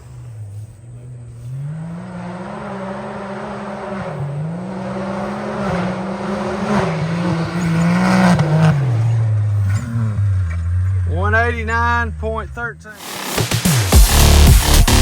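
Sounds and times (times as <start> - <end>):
engine revving under hard throttle: 0.0 - 11.2, 12.4 - 15.0.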